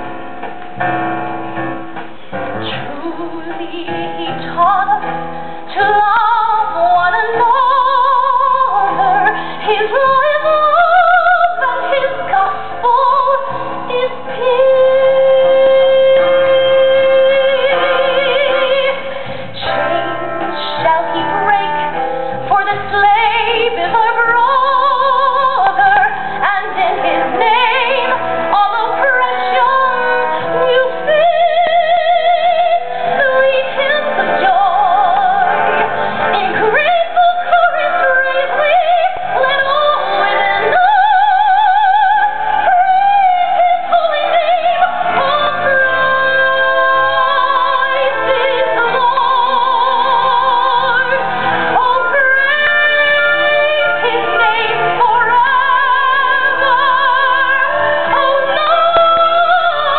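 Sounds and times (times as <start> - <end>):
instrumental accompaniment: 0.0 - 59.9
woman singing with vibrato: 2.6 - 59.9.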